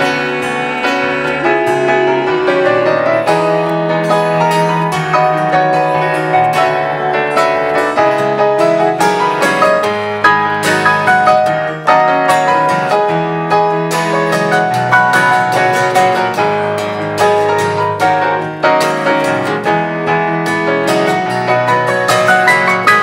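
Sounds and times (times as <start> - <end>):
acoustic guitar accompaniment: 0.0 - 23.0
electronic keyboard playing piano chords: 0.0 - 23.0.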